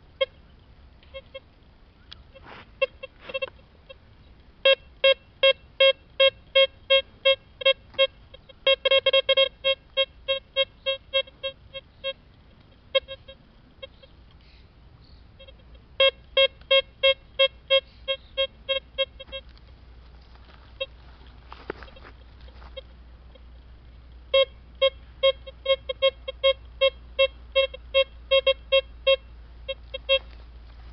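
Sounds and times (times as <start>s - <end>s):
metal detector beeping: 1.0s - 1.5s, 2.2s - 14.2s, 15.4s - 19.5s, 20.4s - 23.5s, 24.3s - 30.4s.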